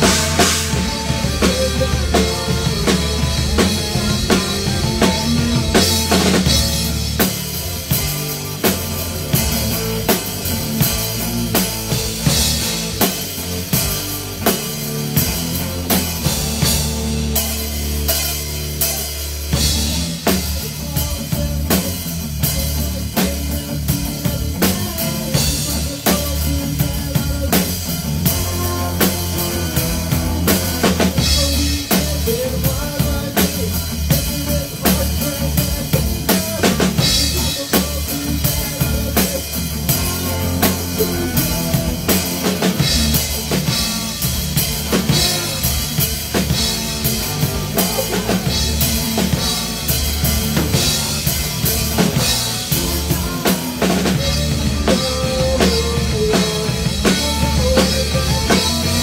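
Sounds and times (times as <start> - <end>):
drum kit beat: 0.0 - 59.0
rock band playing: 0.0 - 59.0.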